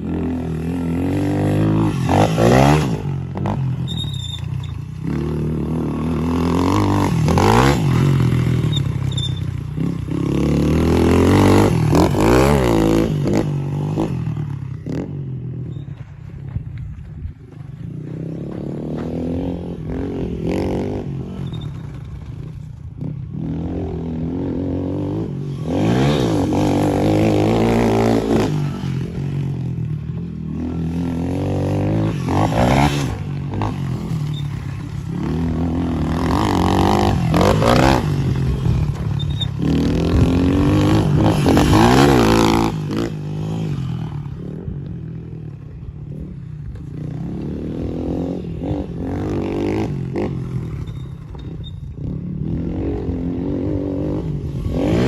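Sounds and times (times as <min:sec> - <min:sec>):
dirt bike engine revving: 0:00.0 - 0:15.2, 0:23.0 - 0:44.8, 0:45.6 - 0:55.0.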